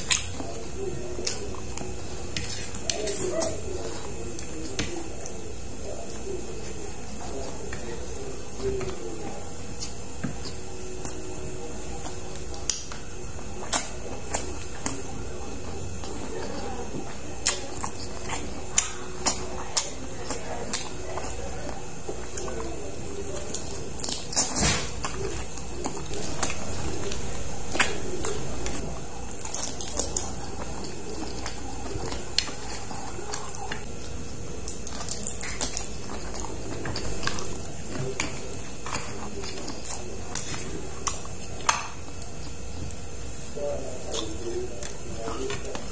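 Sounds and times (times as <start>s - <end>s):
person chewing: 0.0s - 45.9s
steady low hum: 0.0s - 45.9s.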